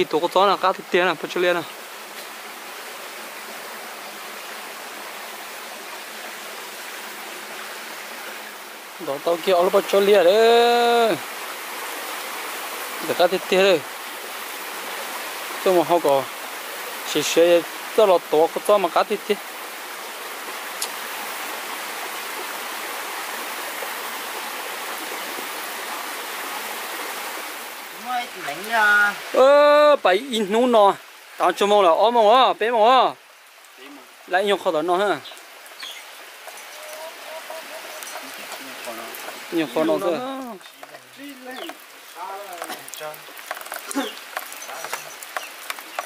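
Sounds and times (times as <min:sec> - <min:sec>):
stream water running: 0:00.0 - 0:46.0.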